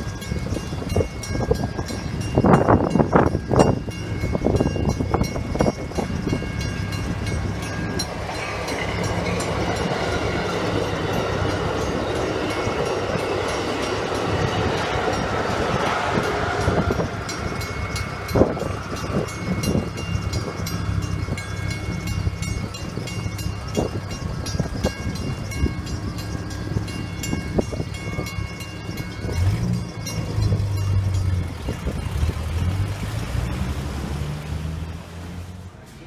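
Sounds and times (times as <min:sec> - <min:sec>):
train cars rolling by: 0:00.0 - 0:36.0.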